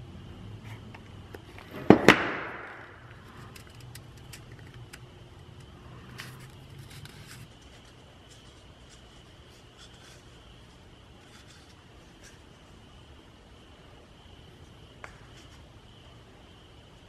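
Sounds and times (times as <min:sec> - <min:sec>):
low shop hum: 0:00.0 - 0:17.0.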